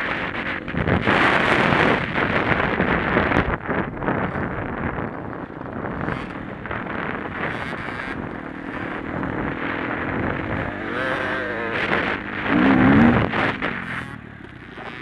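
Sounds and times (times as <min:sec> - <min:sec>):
dirt bike engine running: 0:00.0 - 0:15.0
wind buffeting microphone: 0:00.0 - 0:15.0.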